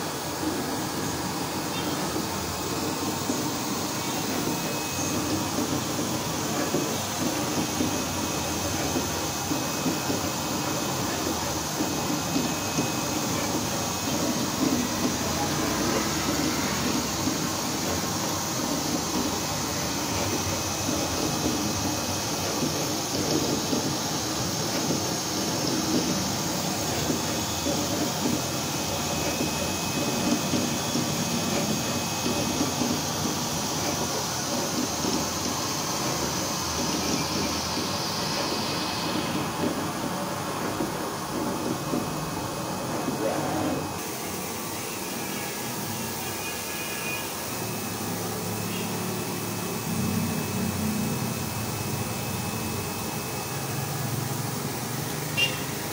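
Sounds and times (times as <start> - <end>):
cutting plotter humming: 0.0 - 55.9.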